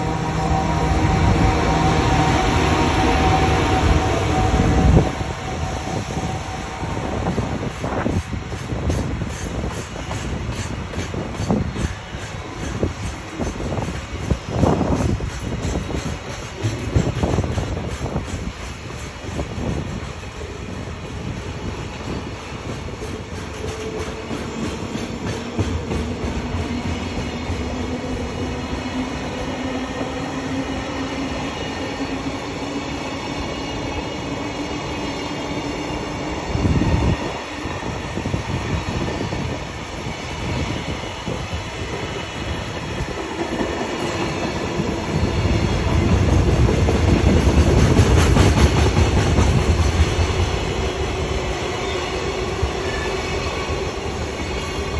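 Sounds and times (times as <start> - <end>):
freight train wheels rumbling and clattering: 0.0 - 54.9.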